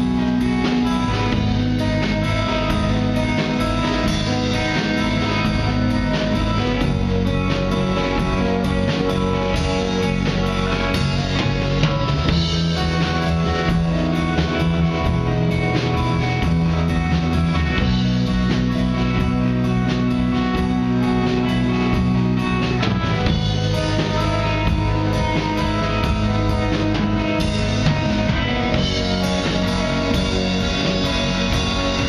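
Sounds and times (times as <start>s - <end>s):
drums steady beat: 0.0s - 32.0s
electric guitars: 0.0s - 32.0s.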